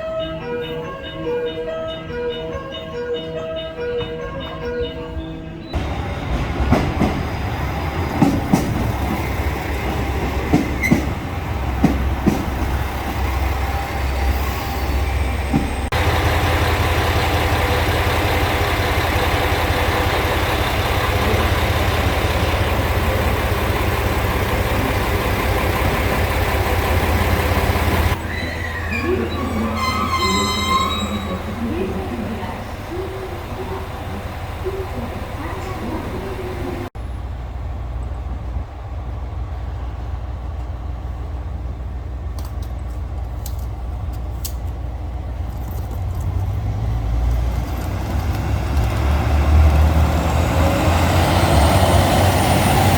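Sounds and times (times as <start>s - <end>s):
diesel railcar engine: 0.0s - 52.9s
train wheels on rails: 5.7s - 52.9s.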